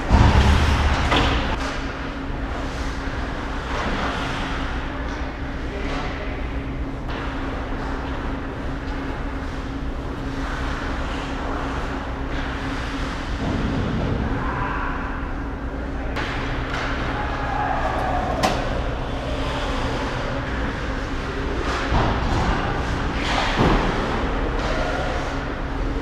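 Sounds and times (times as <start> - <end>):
low arena hum: 0.0 - 26.0.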